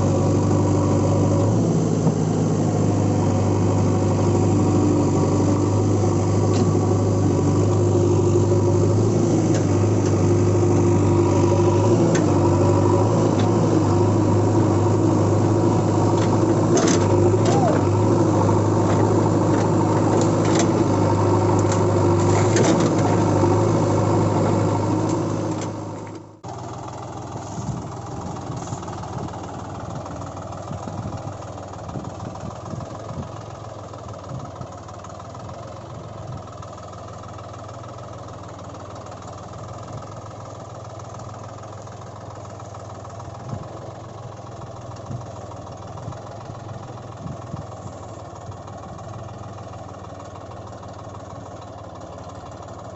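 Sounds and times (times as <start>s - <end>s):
quieter engine idling: 0.0s - 52.9s
vehicle engine deep hum: 0.0s - 52.9s.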